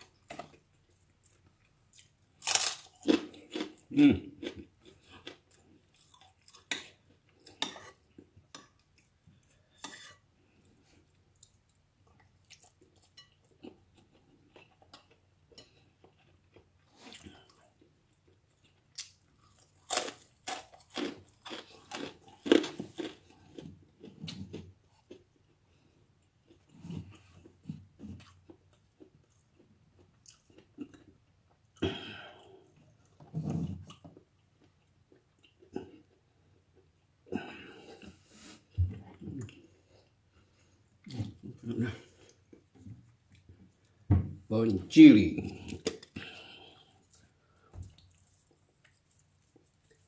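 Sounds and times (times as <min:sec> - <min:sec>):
person chewing food: 0:00.0 - 0:44.0, 0:45.5 - 0:50.0.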